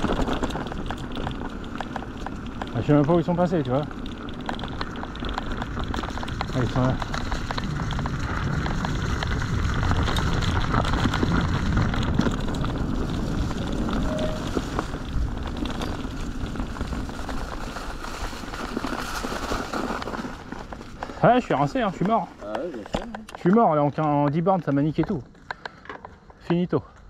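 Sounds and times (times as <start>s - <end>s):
bike clicks and rattles: 0.0s - 27.0s
tyre and wind noise: 0.0s - 27.0s.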